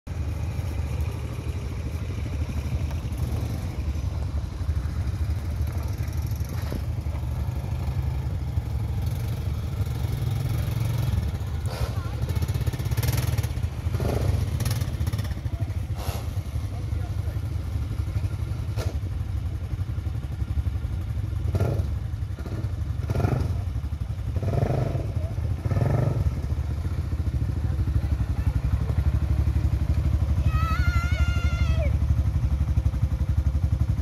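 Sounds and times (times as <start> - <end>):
quad bike engines passing: 0.1 - 34.0.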